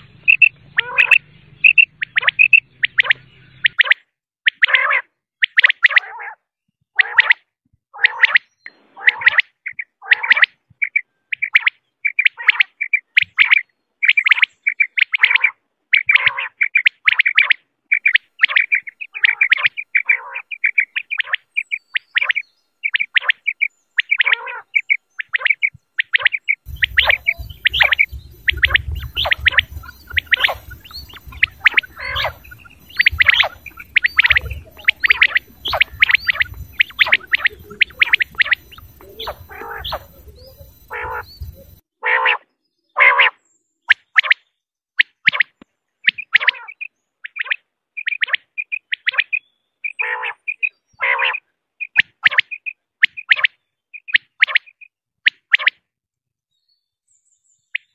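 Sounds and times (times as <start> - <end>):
quail calling: 0.0 - 6.4, 7.0 - 44.4, 45.0 - 55.8.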